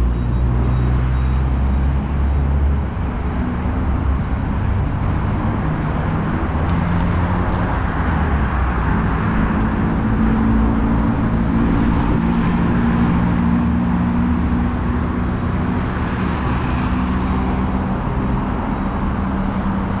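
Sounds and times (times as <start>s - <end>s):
engine hum: 0.0s - 20.0s
tyre and road noise: 0.0s - 20.0s.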